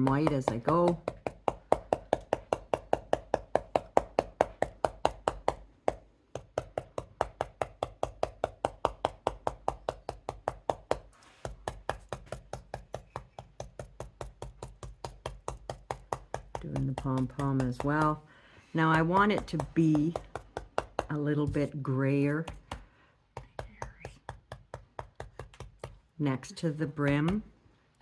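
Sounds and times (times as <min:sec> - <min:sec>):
stippler brush tapping: 0:00.0 - 0:27.6.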